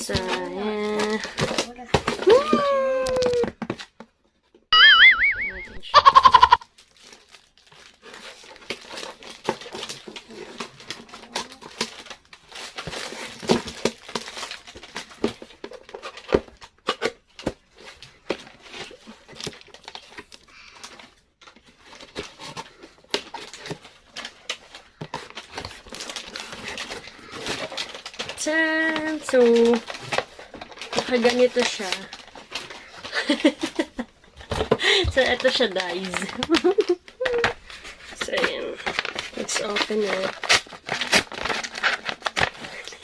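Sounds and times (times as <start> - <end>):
packaging crinkling and rustling: 0.0 - 4.6, 6.1 - 43.0
packaging tearing: 6.2 - 34.6, 35.2 - 43.0.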